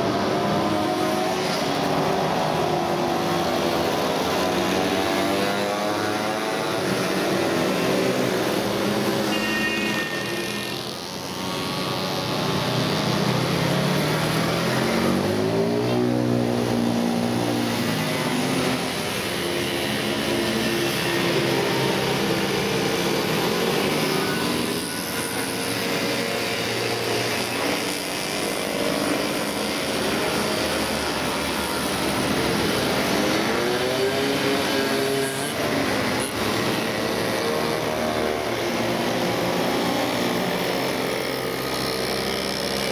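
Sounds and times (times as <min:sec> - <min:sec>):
mopeds and motorcycles passing: 0:00.0 - 0:42.9.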